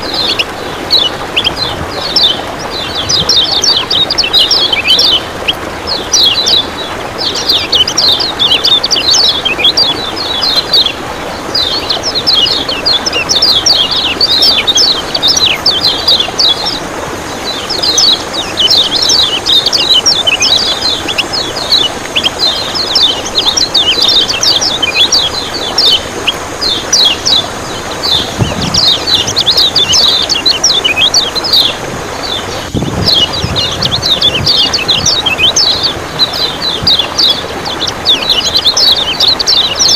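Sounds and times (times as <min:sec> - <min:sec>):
bird chattering song: 0:00.0 - 0:39.9
running water rushing: 0:00.0 - 0:39.9.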